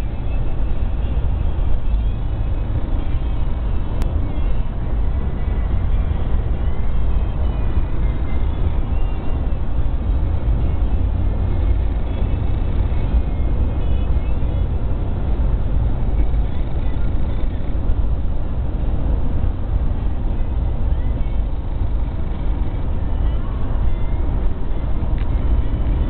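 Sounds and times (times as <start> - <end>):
road and engine rumble in car: 0.0 - 26.0.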